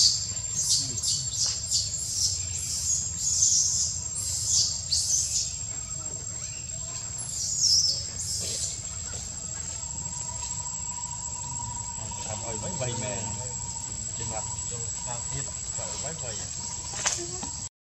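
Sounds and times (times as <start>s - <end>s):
birds chirping: 0.0s - 17.7s
high insect whine: 0.0s - 17.7s.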